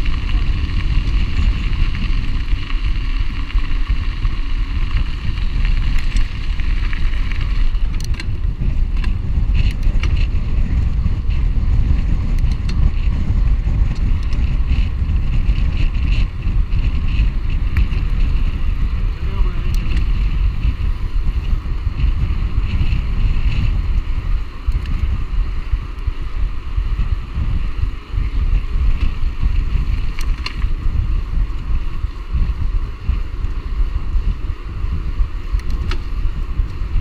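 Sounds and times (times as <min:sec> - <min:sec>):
bike riding noise: 0:00.0 - 0:37.0
wind buffeting microphone: 0:00.0 - 0:37.0.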